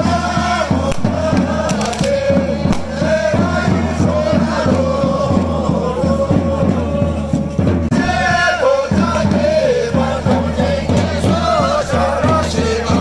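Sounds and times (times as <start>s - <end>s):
group singing in unison: 0.0s - 13.0s.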